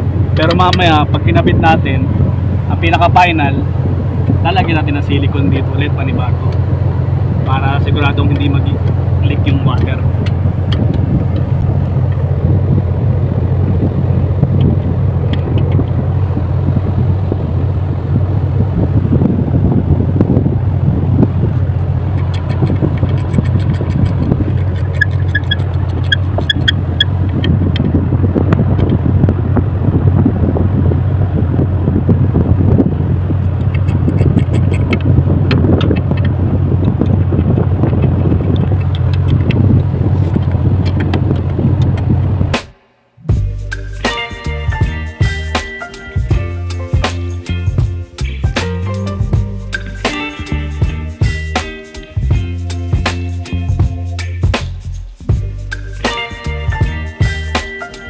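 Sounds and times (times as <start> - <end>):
ship noise: 0.0 - 58.0
wind rumble: 0.0 - 58.0.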